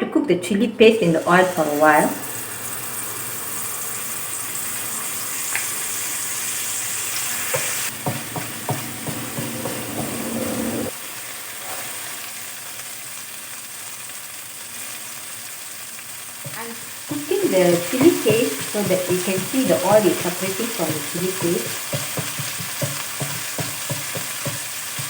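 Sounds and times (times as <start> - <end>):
paste sizzling in hot oil: 1.2 - 25.0.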